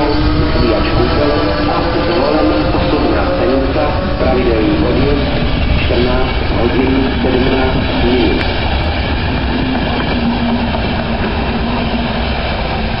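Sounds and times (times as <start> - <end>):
train coaches rolling past: 0.0 - 13.0.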